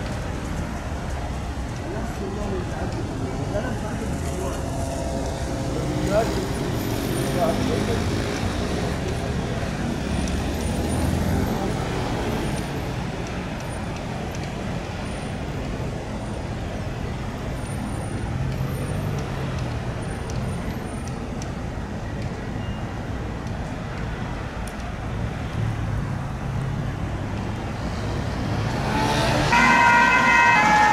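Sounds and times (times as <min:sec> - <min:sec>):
traffic engines rumbling: 0:00.0 - 0:30.9.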